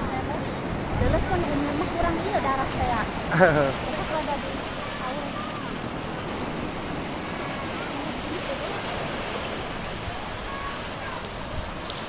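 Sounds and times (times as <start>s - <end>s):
waves washing over rocky shore: 0.0s - 12.0s.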